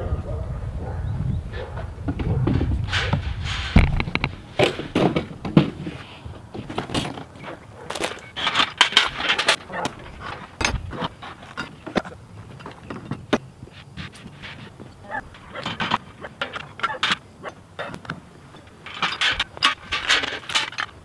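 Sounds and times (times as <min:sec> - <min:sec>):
metal pipes clanking and scraping: 0:02.6 - 0:21.0.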